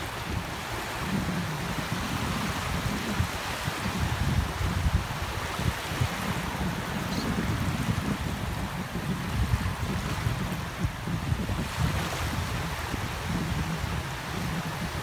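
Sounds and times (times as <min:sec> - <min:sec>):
surf washing on sandy shore: 0:00.0 - 0:15.0
wind buffeting microphone: 0:00.0 - 0:15.0.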